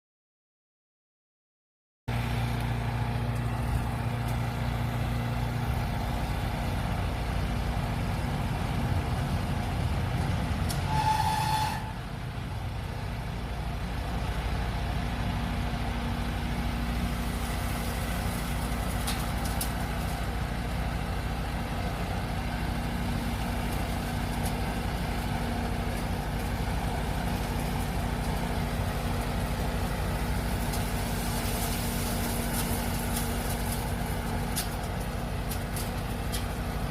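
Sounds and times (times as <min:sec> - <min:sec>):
engine machinery running: 0:02.1 - 0:36.9.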